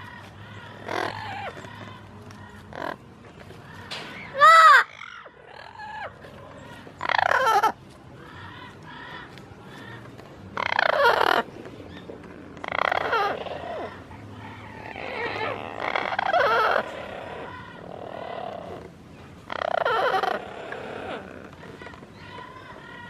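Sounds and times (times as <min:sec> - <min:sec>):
parrots calling loudly: 0:00.0 - 0:23.0.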